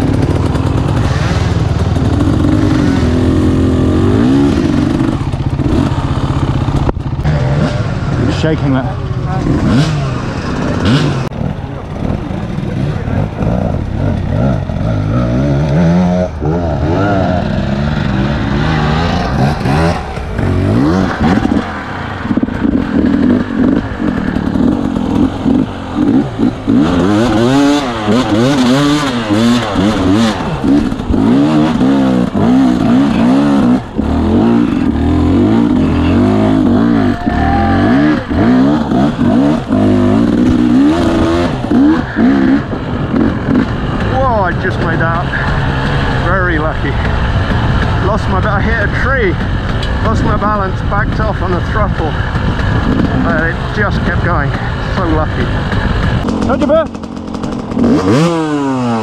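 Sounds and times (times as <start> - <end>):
bike rattling over bumps: 0.0 - 59.0
motorbike engine revving: 0.0 - 59.0.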